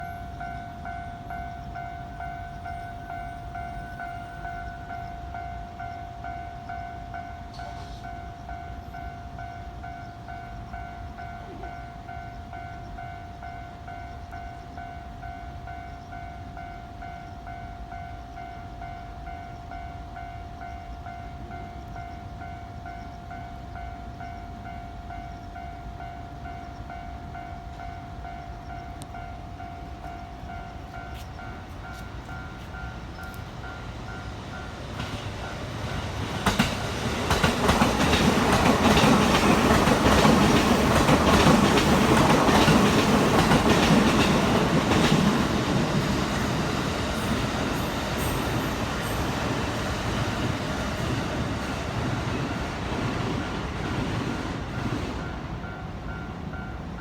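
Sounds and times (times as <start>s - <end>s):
level-crossing warning bell: 0.0s - 57.0s
trains rumbling past: 0.0s - 57.0s.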